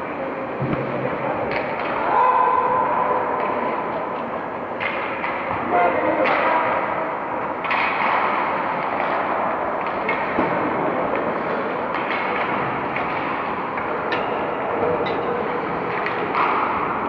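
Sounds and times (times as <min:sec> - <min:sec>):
sticks clacking on puck: 0:00.6 - 0:02.2, 0:03.3 - 0:06.9, 0:07.5 - 0:17.0.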